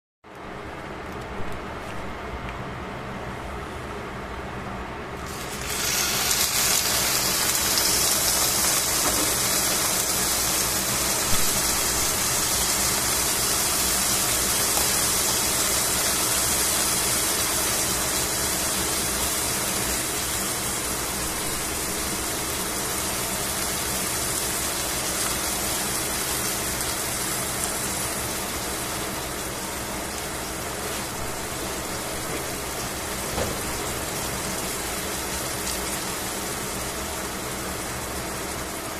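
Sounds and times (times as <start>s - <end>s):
meat sizzling in hot oil: 5.2s - 38.9s.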